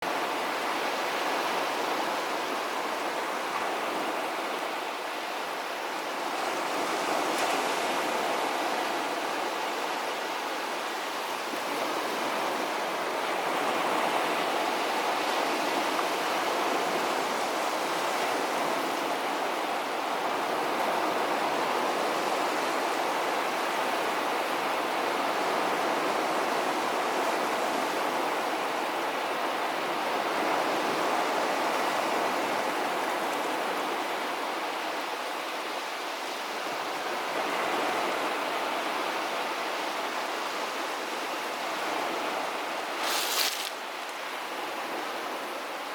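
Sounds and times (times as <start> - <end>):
sea waves washing onto beach: 0.0 - 45.9.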